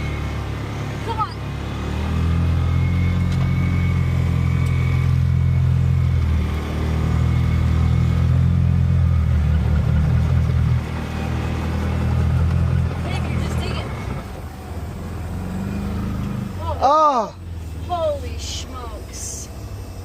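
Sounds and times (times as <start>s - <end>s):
engine revving high: 0.0s - 20.0s.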